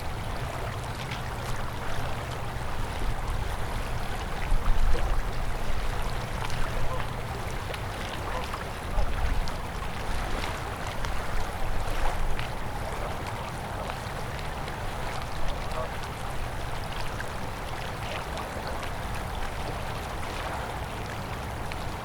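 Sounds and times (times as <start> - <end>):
river water rushing: 0.0 - 22.0
water splashing and gurgling: 0.0 - 22.0.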